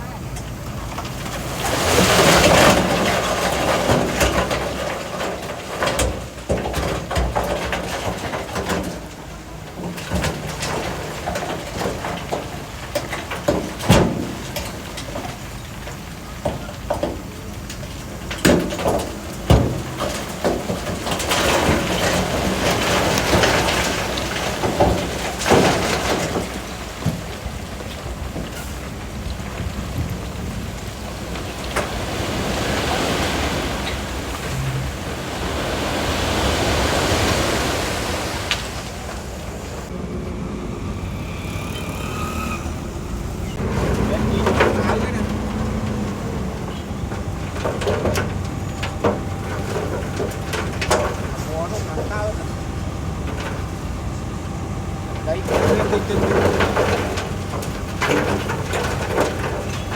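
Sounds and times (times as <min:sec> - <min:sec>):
diesel engines running: 0:00.0 - 0:59.9
loose rock clattering and rumbling: 0:00.0 - 0:59.9.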